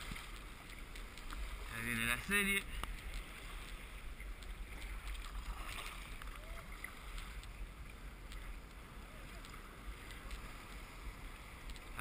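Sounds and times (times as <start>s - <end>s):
sea water lapping and splashing: 0.0s - 12.0s.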